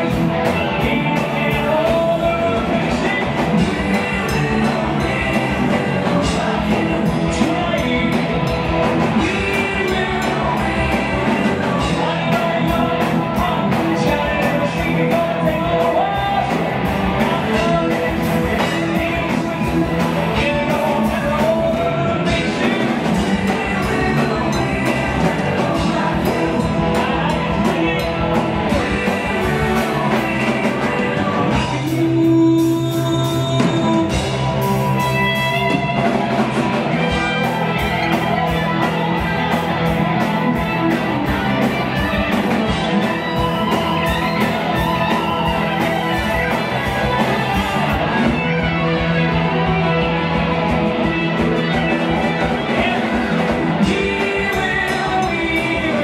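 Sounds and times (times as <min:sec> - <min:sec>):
live rock band: 0:00.0 - 0:56.0
man singing rock song: 0:00.0 - 0:56.0.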